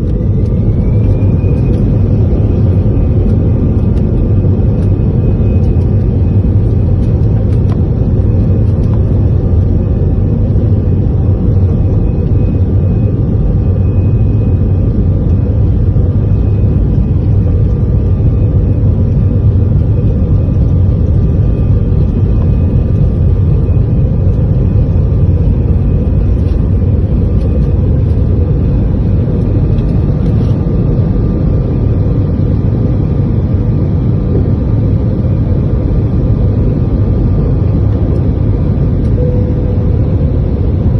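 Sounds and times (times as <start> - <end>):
faint steady whines: 0.0 - 40.9
jet engine cabin rumble: 0.0 - 40.9.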